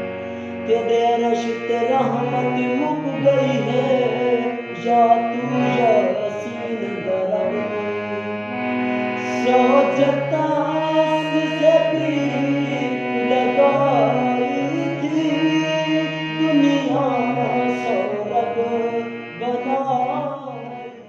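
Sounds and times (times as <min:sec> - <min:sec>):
song with bending notes: 0:00.0 - 0:21.0.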